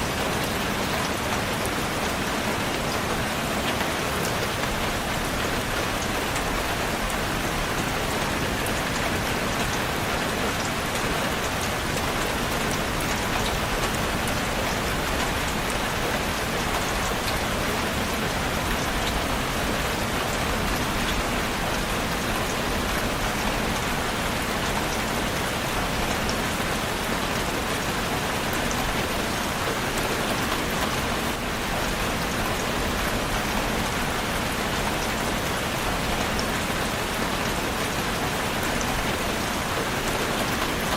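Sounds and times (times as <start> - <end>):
steady rain on a surface: 0.0 - 40.9.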